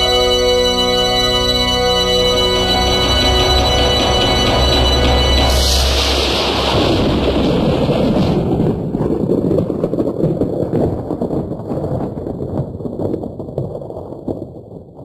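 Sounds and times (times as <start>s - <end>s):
crackling rumbling noise: 0.0s - 15.0s.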